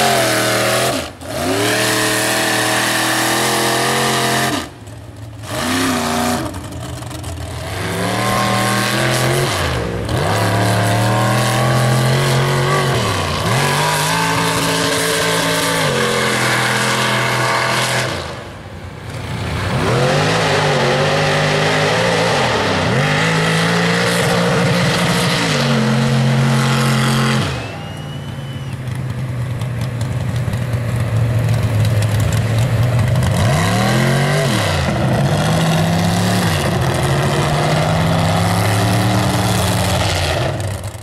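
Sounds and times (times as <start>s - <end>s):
truck engines revving hard: 0.0s - 41.0s.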